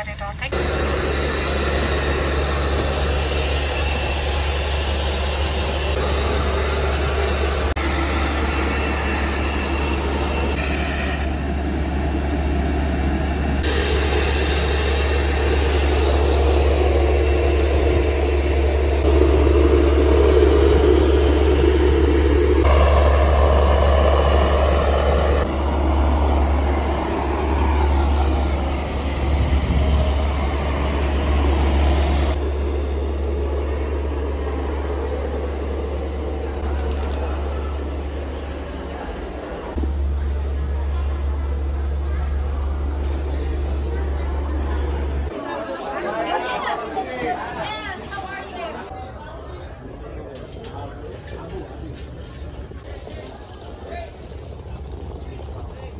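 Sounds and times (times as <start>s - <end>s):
jet engine roar and whine: 0.0s - 48.9s, 50.4s - 55.9s.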